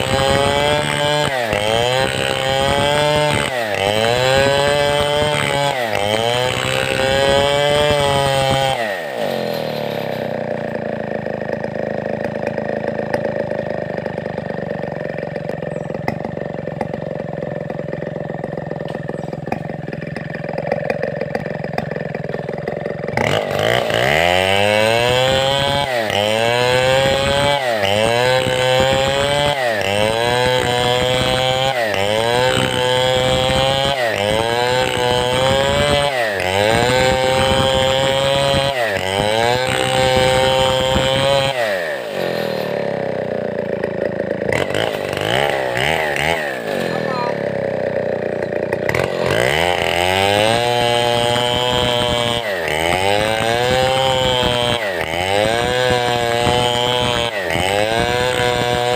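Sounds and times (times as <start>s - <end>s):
chainsaw sawing timber: 0.0s - 58.9s.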